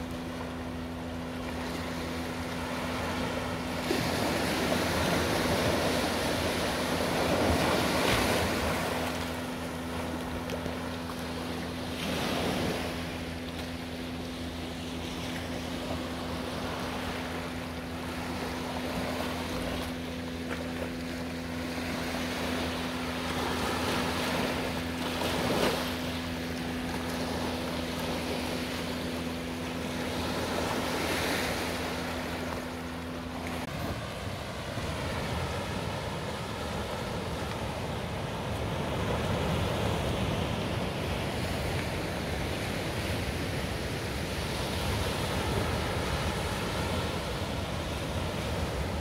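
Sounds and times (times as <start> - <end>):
sea waves breaking on shore: 0.0 - 49.0
steady low hum: 0.0 - 49.0.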